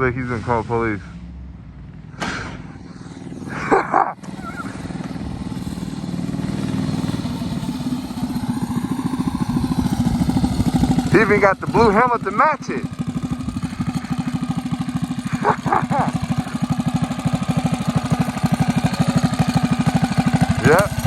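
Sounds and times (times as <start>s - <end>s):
mini bike engine running: 2.2s - 21.0s.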